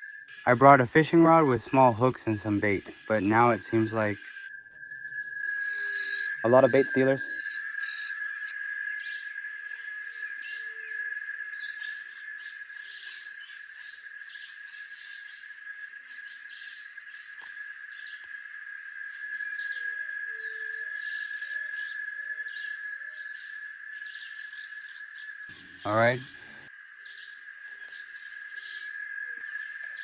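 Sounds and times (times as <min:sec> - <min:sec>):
bird chirps: 0:00.0 - 0:30.0
insects droning: 0:00.0 - 0:30.0
low arching animal calls: 0:00.0 - 0:30.0.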